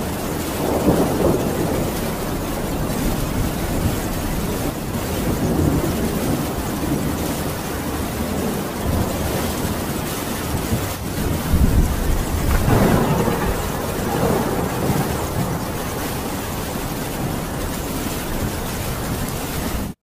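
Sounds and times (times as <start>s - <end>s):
low rolling thunder: 0.0s - 20.0s
steady rain: 0.0s - 20.0s.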